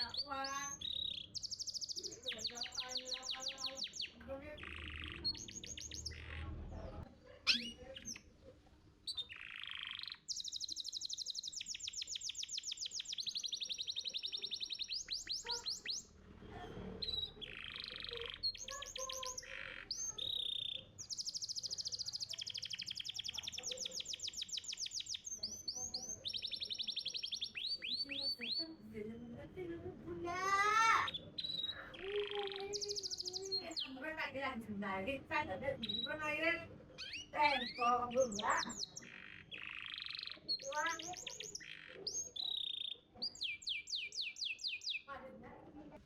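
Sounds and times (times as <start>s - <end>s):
canary singing trills: 0.0s - 45.2s.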